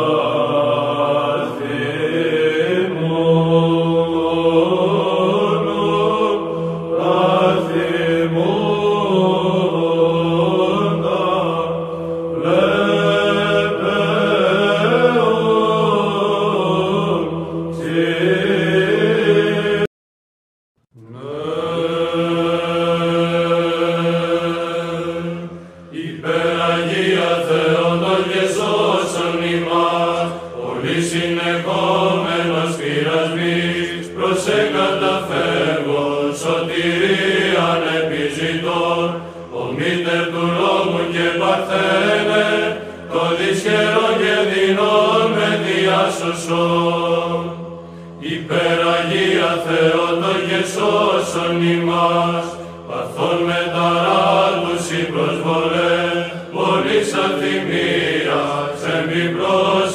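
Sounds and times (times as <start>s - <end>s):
choir chanting: 0.0s - 19.9s, 21.0s - 59.9s.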